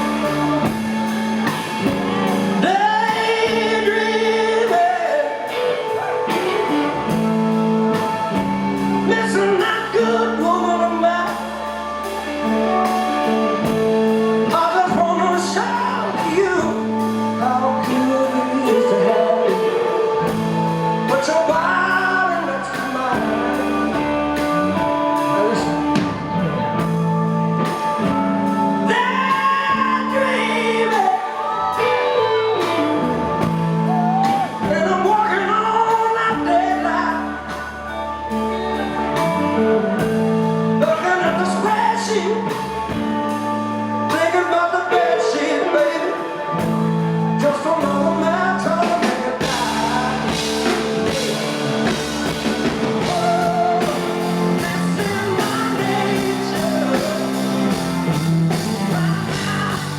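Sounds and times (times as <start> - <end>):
live rock band playing: 0.0 - 59.9
man singing: 0.0 - 59.9.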